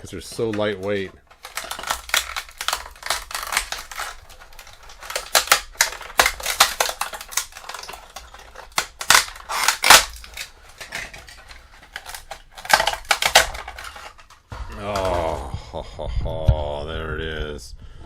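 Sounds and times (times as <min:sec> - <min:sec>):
plastic supports snapping: 0:00.0 - 0:15.4.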